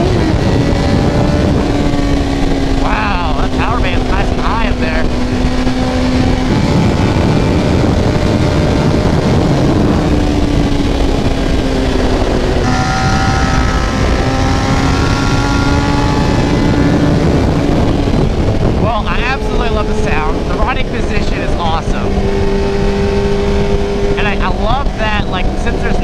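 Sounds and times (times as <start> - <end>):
motorcycle engine cruising: 0.0 - 26.0
wind rushing: 0.0 - 26.0.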